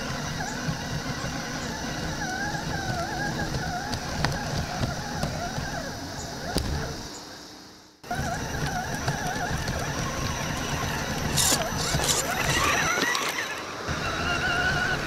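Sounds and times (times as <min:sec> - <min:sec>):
electric motor whining: 0:00.0 - 0:07.0, 0:08.0 - 0:15.0
tyres rumbling on rocks: 0:00.0 - 0:07.0, 0:08.0 - 0:15.0.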